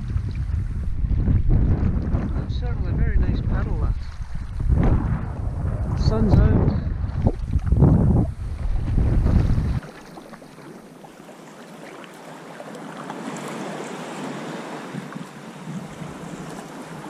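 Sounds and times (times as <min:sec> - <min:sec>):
sea water washing and splashing: 0:00.0 - 0:17.0.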